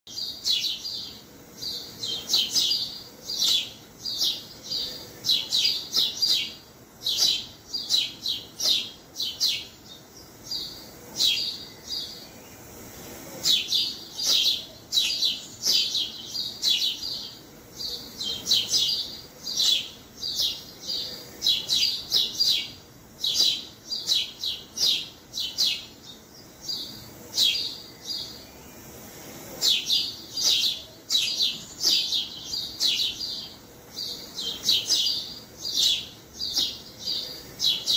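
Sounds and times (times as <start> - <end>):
sparrows chirping: 0.1 - 37.9.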